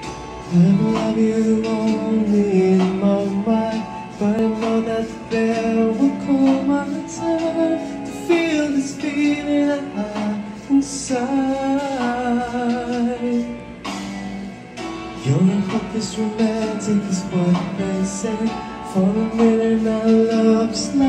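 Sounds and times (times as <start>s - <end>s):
person singing: 0.0s - 13.8s, 15.2s - 21.0s
instrumental accompaniment: 0.0s - 21.0s.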